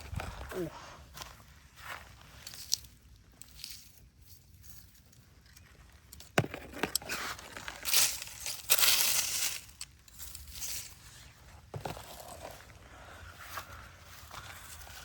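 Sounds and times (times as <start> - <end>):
dry debris crunching and crackling: 0.0 - 15.0.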